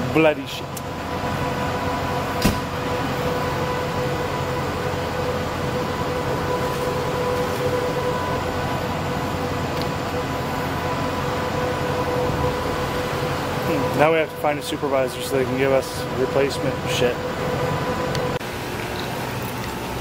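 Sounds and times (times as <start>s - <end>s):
vehicle engine idling: 0.0s - 18.4s.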